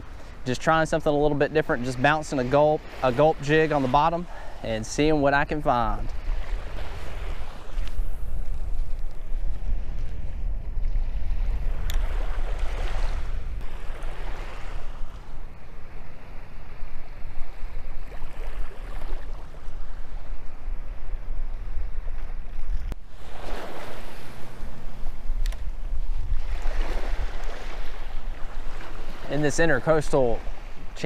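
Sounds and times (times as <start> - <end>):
waves lapping on sandy shore: 0.0 - 31.0
wind rumble on microphone: 0.0 - 31.0.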